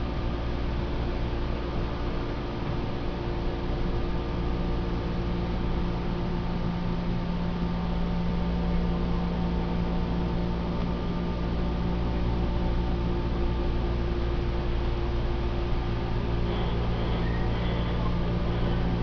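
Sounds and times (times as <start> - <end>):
low electric hum: 0.0 - 19.0
train car running rumble: 0.0 - 19.0.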